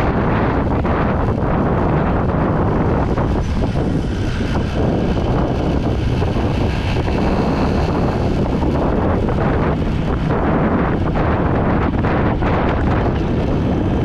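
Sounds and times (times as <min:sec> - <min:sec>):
motorbike road rumble: 0:00.0 - 0:14.0
wind noise on microphone: 0:00.0 - 0:14.0.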